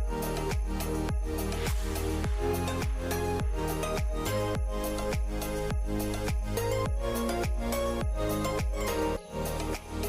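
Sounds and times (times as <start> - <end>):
music with deep beat: 0.0 - 10.0.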